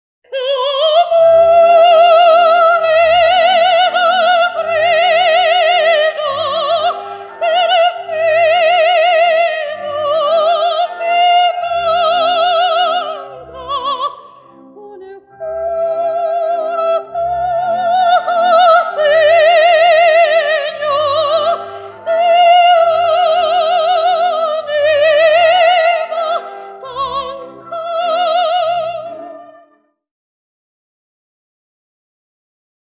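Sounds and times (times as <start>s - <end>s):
operatic soprano singing: 0.3s - 29.8s.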